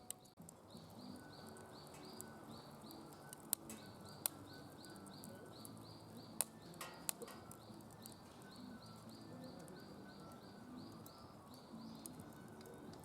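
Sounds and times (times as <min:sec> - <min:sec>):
high chirp: 0:00.0 - 0:12.9
wood fire crackling and popping: 0:00.0 - 0:13.0.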